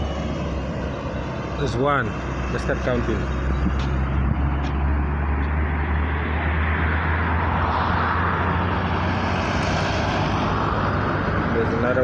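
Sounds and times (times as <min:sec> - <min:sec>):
truck engine drone: 0:00.0 - 0:12.0
tyre and road noise: 0:00.0 - 0:12.0.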